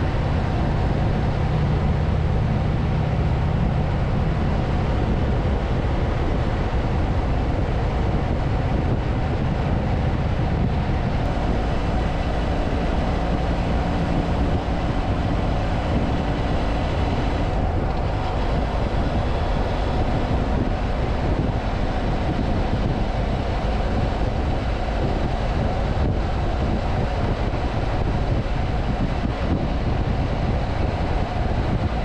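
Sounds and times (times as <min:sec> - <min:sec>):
motorcycle engine hum: 0:00.0 - 0:32.0
wind rushing on microphone: 0:00.0 - 0:32.0.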